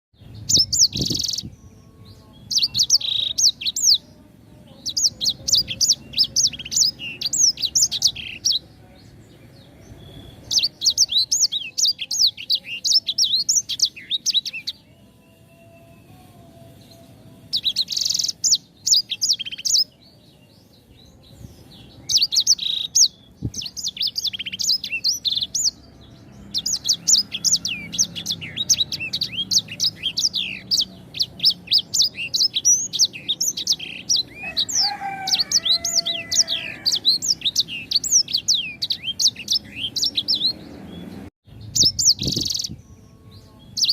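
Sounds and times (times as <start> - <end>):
songbird chirping: 0.1 - 43.9.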